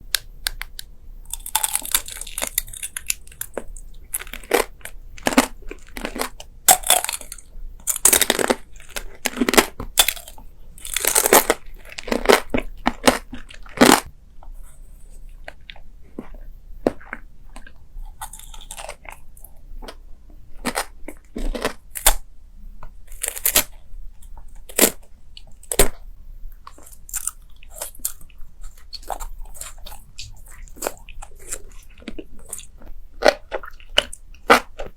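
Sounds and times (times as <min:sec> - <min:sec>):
crunchy bites and chewing: 0:00.1 - 0:14.1, 0:15.3 - 0:20.0, 0:20.6 - 0:34.9.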